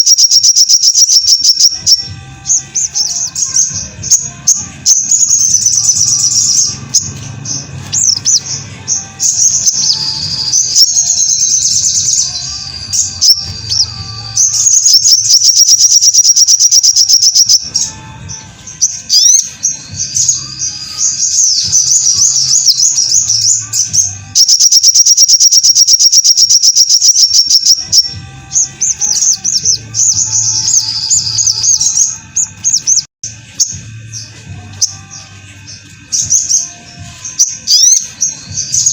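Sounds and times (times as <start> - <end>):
bird singing rapid trills: 0.0 - 38.9.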